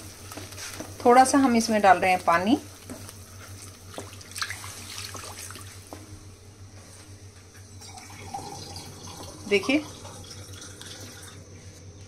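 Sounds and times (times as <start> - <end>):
liquid bubbling and sizzling: 0.0 - 12.0.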